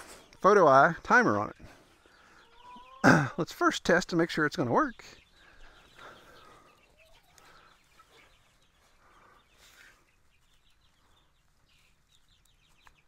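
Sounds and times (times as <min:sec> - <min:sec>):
faint chickens clucking: 0:00.0 - 0:13.0.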